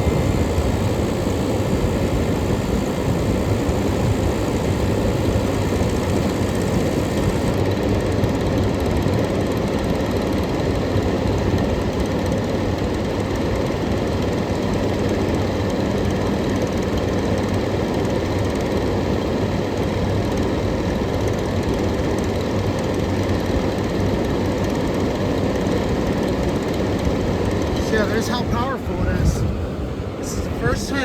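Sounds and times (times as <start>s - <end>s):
window air conditioner running: 0.0s - 31.0s.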